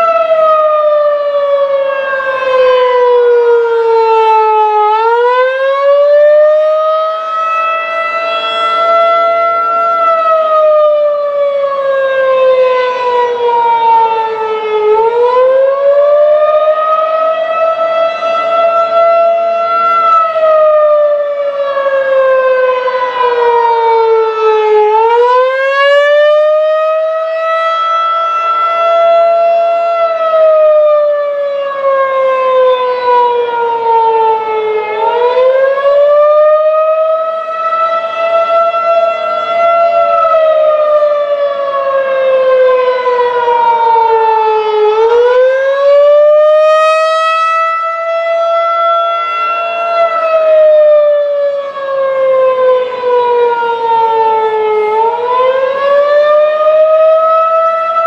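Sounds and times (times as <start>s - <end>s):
warning siren wailing: 0.0s - 58.0s.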